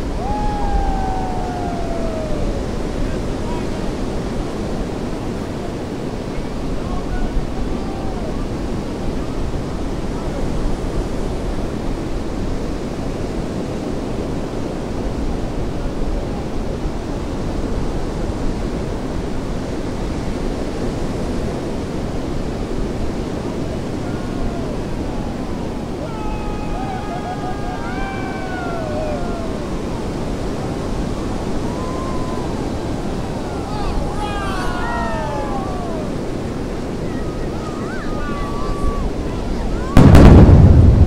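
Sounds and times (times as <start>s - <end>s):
surf washing on beach: 0.0s - 41.0s.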